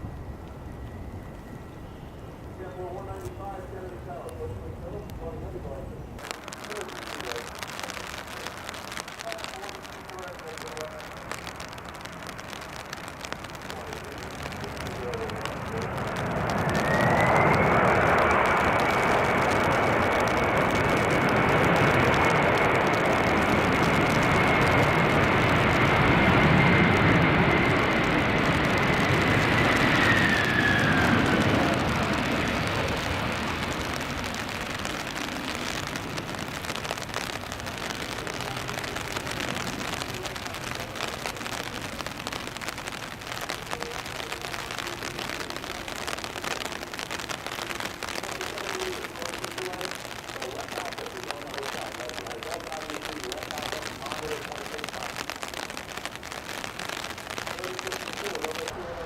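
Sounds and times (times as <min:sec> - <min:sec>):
jet engines reverse thrust whine: 0:00.0 - 0:55.2.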